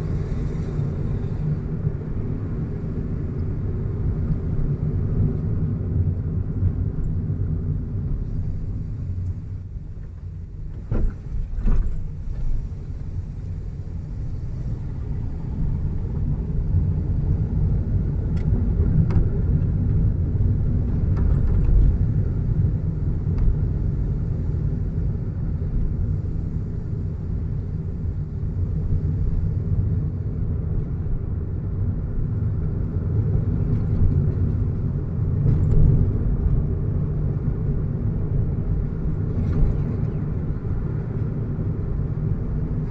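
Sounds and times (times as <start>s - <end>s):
car tyres and engine rumble: 0.0s - 42.9s.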